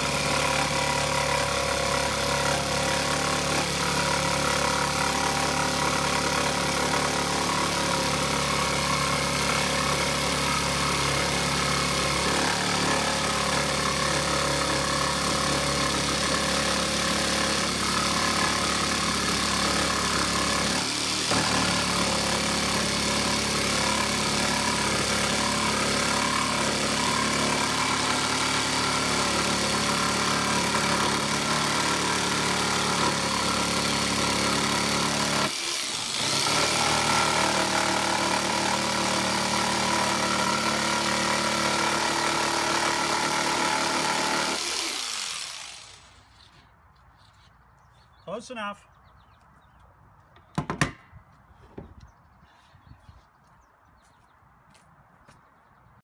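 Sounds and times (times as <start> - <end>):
power sander on wood: 0.0 - 47.5.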